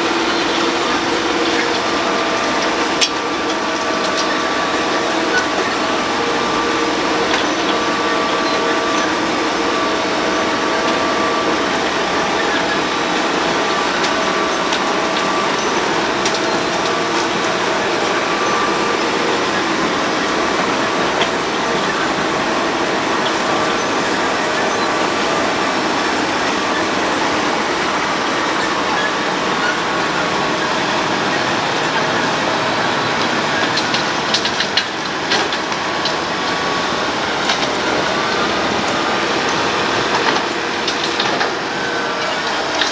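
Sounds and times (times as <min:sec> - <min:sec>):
road milling machine running: 0:00.0 - 0:42.9.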